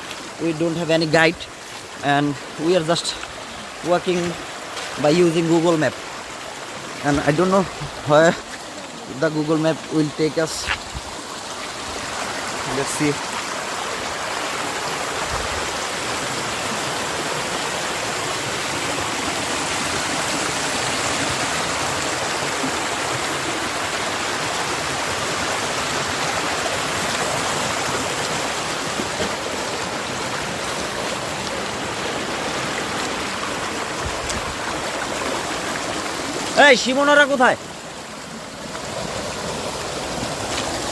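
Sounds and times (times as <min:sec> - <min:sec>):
stream running over stones: 0:00.0 - 0:40.9.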